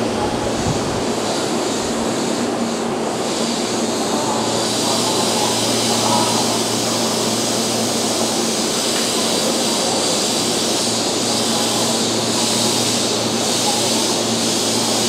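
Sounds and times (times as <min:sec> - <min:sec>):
electric train equipment humming: 0:00.0 - 0:15.0.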